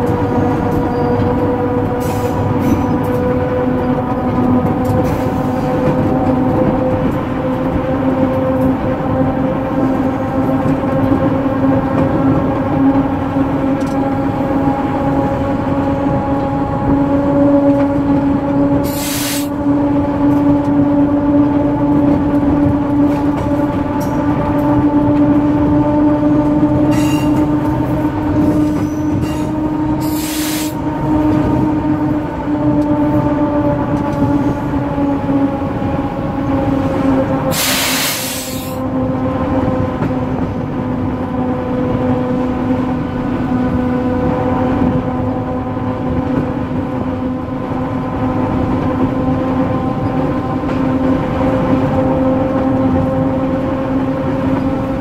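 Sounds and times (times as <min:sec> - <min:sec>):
diesel train engine drone: 0:00.0 - 0:55.0.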